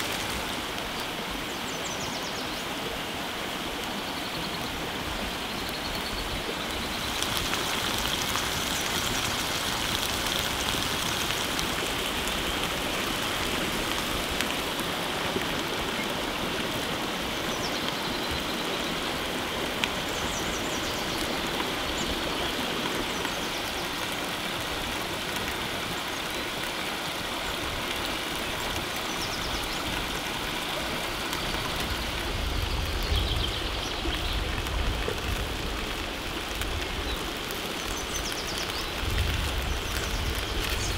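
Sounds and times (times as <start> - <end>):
fire crackles: 0.0 - 2.1, 2.8 - 40.9.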